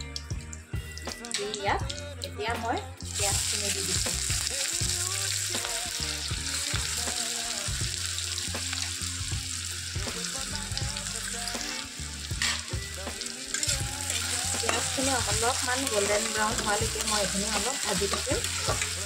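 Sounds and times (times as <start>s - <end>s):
onion sizzling in hot oil: 3.0s - 19.0s.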